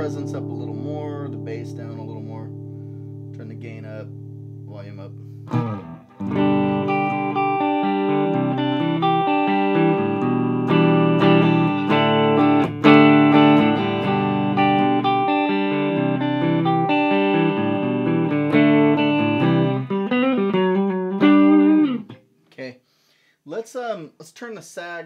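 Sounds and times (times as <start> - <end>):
electric guitar chords and notes: 0.0 - 22.3.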